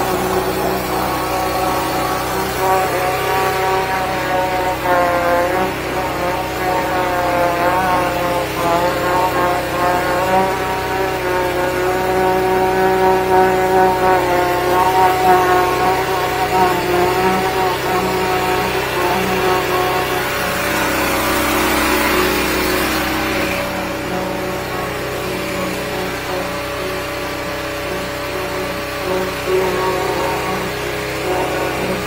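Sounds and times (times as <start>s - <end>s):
engine running under load: 0.0s - 32.0s.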